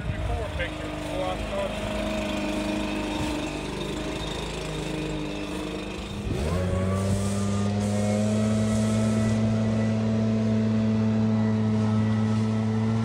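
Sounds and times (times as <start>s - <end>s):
leaf blower engine revving: 0.0s - 13.0s.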